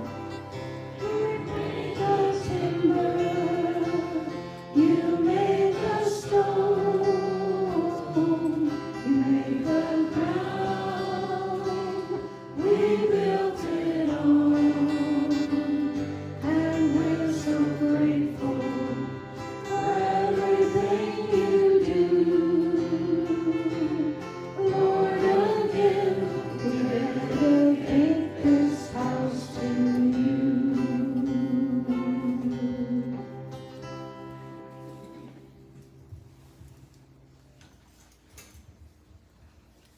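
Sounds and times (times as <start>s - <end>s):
voices singing a hymn: 0.0s - 34.6s
acoustic guitar accompaniment: 0.0s - 39.9s.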